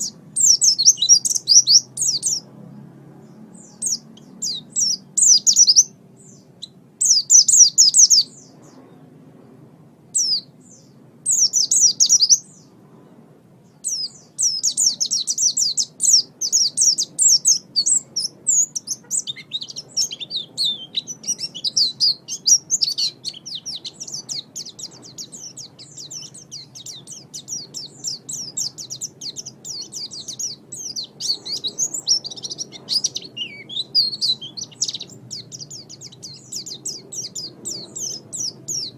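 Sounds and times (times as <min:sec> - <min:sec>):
bird twittering: 0:00.0 - 0:02.5, 0:03.4 - 0:09.0, 0:10.2 - 0:12.7, 0:13.7 - 0:38.9.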